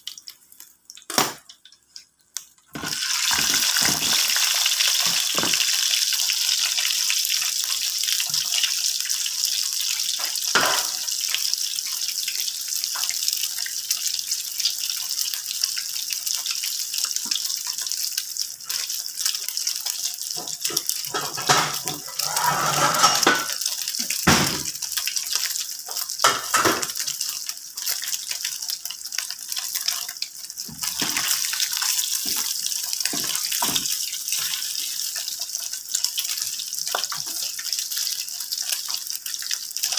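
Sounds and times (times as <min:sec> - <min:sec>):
meat sizzling in oil: 0:02.7 - 0:39.9.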